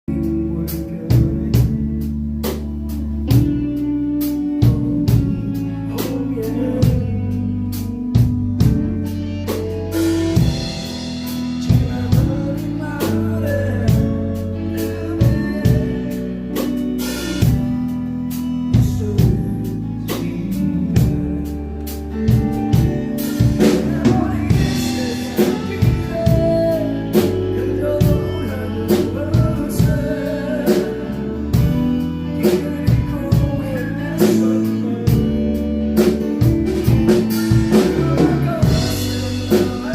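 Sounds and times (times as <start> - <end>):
bass and guitar: 0.0 - 39.9
person singing: 0.0 - 39.9
drum kit beat with snare: 0.2 - 39.9.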